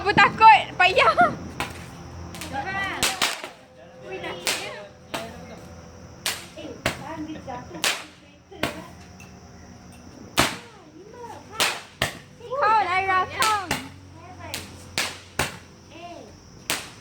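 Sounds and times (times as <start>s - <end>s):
firecrackers cracking: 0.0s - 9.5s, 10.2s - 17.0s.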